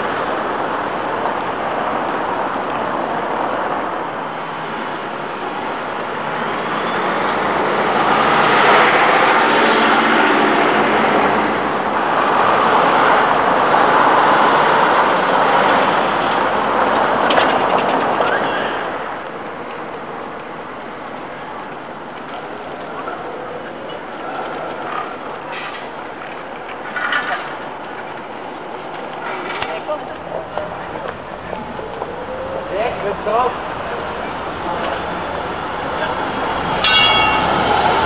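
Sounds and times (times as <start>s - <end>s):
passing road traffic: 0.0s - 38.0s
tram wheels rolling on rail: 0.0s - 38.0s.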